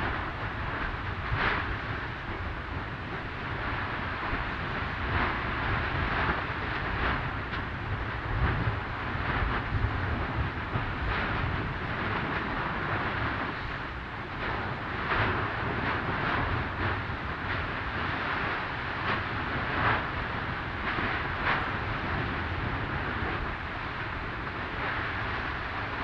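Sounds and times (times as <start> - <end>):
lava vent roaring: 0.0 - 26.0.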